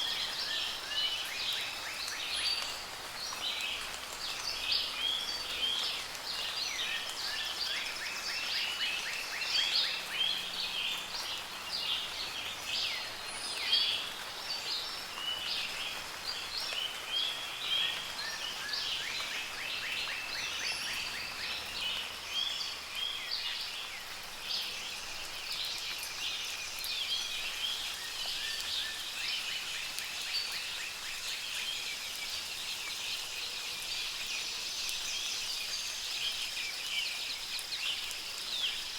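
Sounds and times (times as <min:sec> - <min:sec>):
soft rain hiss: 0:00.0 - 0:38.9
songbirds singing and chirping: 0:00.0 - 0:38.9.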